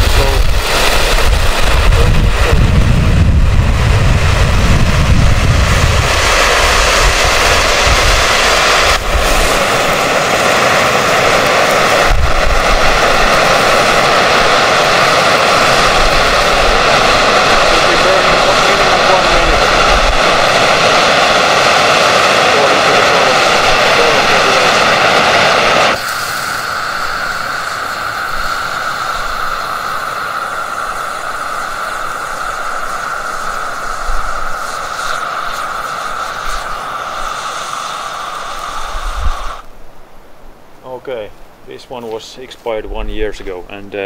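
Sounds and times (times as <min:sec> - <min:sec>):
hand flare burning with a hiss: 0:00.0 - 0:40.3.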